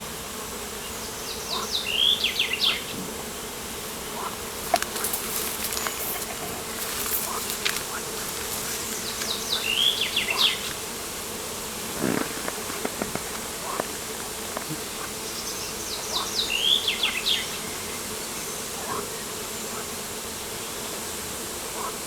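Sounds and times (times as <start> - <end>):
insect buzzing: 0.0 - 22.0.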